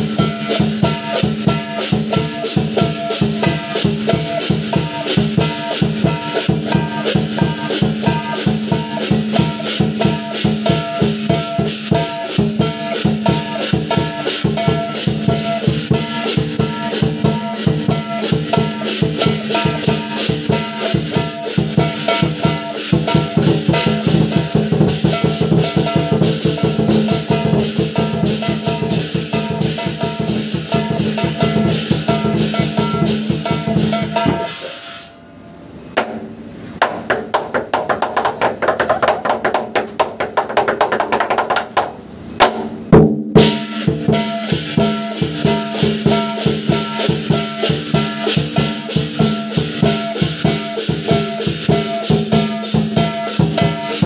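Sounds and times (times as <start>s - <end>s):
large drum beaten fast: 0.0s - 34.6s, 36.0s - 54.0s
ringing gong: 0.0s - 35.4s, 43.4s - 54.0s
clashing cymbals: 0.0s - 36.8s, 43.0s - 54.0s.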